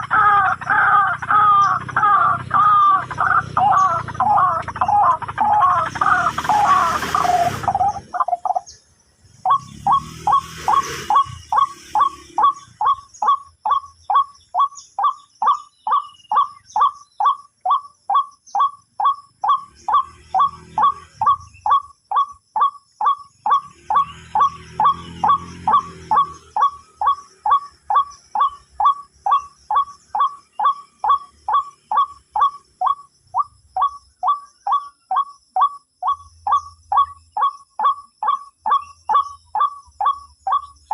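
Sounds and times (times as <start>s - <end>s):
waterhen calls: 0.0s - 8.7s, 9.4s - 40.9s.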